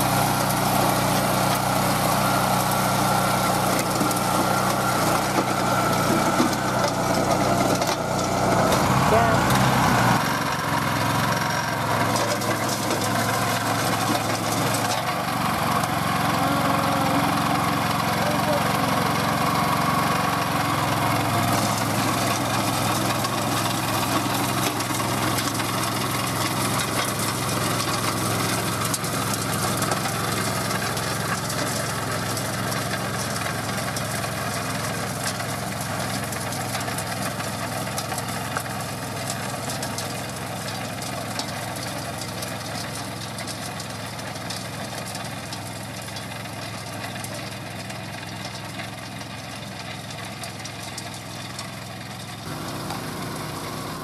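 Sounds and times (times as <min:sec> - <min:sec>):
walk-behind tractor engine running: 0:00.0 - 0:54.0.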